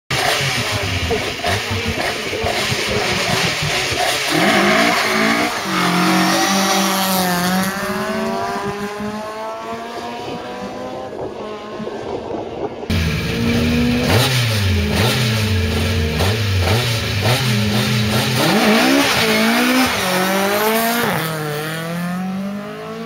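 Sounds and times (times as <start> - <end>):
rally car engine revving: 0.1 - 12.3, 12.9 - 23.0.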